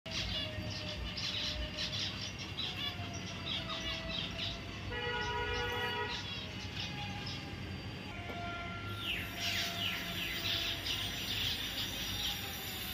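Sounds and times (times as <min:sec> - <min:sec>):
finches chirping: 0:00.1 - 0:08.0, 0:08.9 - 0:12.9.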